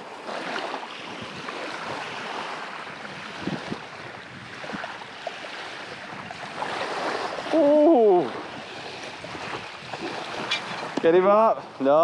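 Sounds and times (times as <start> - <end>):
small waves lapping on shore: 0.0 - 12.0
wind on microphone: 0.0 - 12.0.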